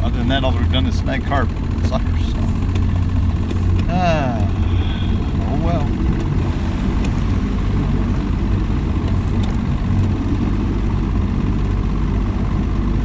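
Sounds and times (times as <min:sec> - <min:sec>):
boat motor rumble: 0:00.0 - 0:13.0.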